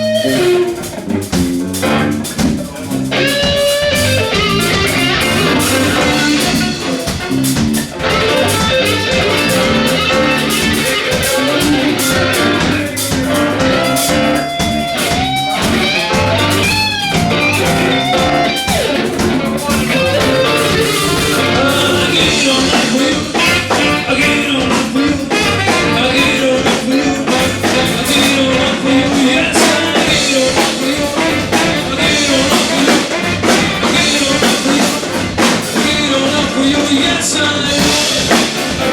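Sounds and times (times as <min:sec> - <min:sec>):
drum kit: 0:00.0 - 0:38.9
electric guitar: 0:00.0 - 0:38.9
live band playing: 0:00.0 - 0:38.9.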